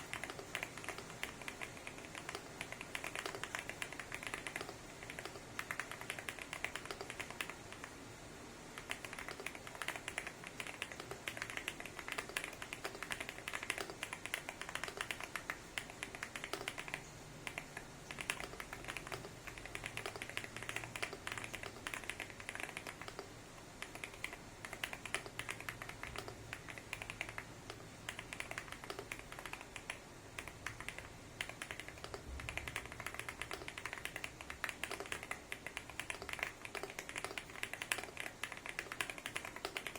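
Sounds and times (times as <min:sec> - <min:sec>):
mechanical keyboard typing: 0:00.0 - 0:08.0, 0:08.8 - 0:39.9.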